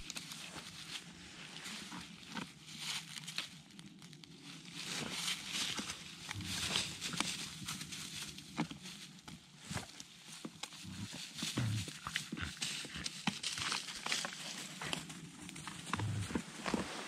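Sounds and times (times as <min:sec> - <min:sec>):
rustling dry leaves: 0:00.0 - 0:17.0.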